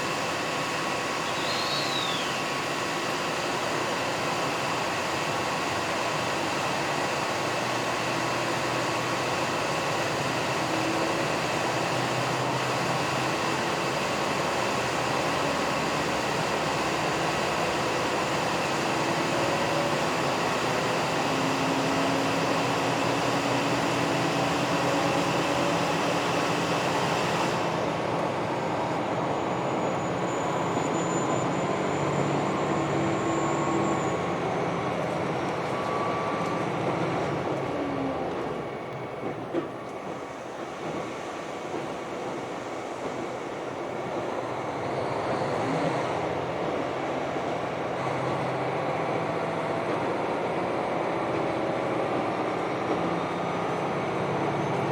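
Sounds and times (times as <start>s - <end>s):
train wheels and engine rumble: 0.0s - 54.9s.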